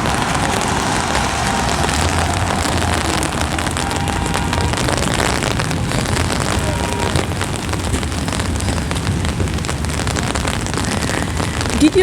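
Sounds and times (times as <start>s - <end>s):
low rumble: 0.0s - 11.9s
rain pattering on an umbrella: 0.0s - 12.0s.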